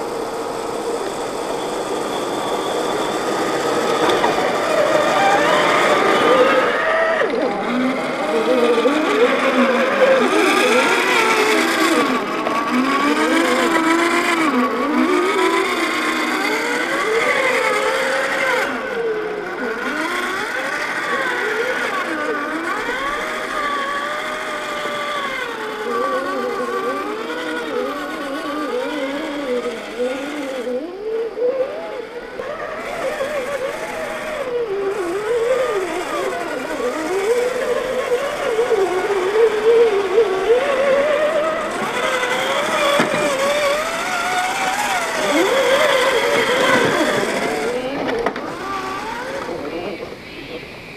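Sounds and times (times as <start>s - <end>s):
electric motors whining: 0.0s - 50.9s.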